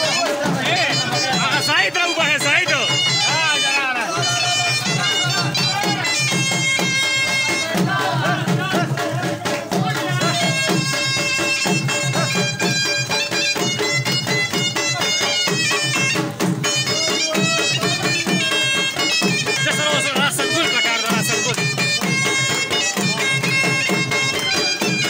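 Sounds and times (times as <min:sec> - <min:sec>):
shrill pipe playing: 0:00.0 - 0:07.9, 0:10.0 - 0:25.0
fast drum beat: 0:00.0 - 0:25.0.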